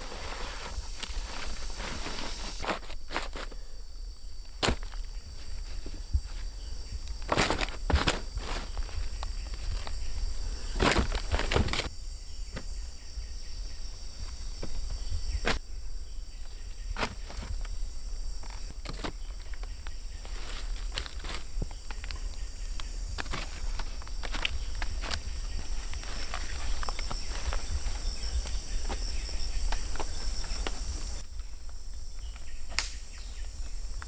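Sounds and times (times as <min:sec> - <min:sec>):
footsteps on forest ground: 0:00.0 - 0:11.9, 0:16.4 - 0:32.6.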